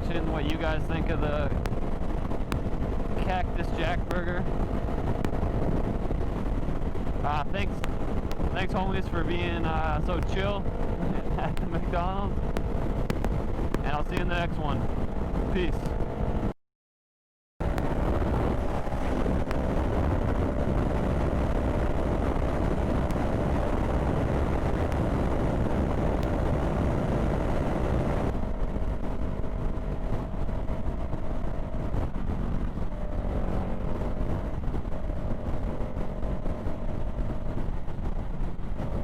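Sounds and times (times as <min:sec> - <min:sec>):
motorcycle engine running: 0:00.0 - 0:16.5, 0:17.6 - 0:39.0
steady rushing noise: 0:00.0 - 0:16.5, 0:17.6 - 0:39.0.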